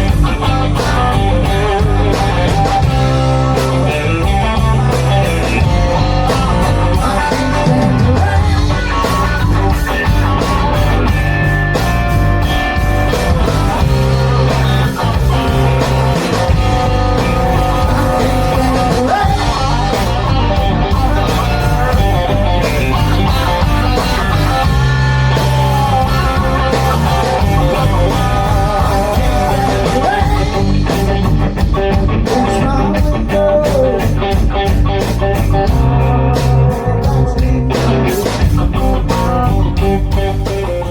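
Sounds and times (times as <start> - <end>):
blues band playing: 0.0 - 40.9
guitar: 0.0 - 40.9.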